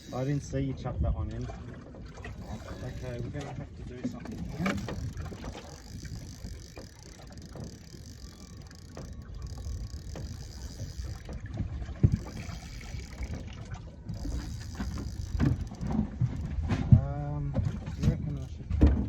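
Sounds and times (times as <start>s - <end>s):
water slapping a boat: 0.0s - 19.0s
wind: 0.0s - 19.0s.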